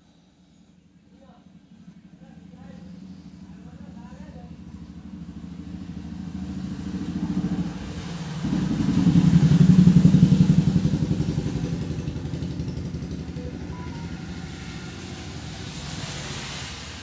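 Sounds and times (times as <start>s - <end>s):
vehicle engine passing by: 1.1s - 17.0s.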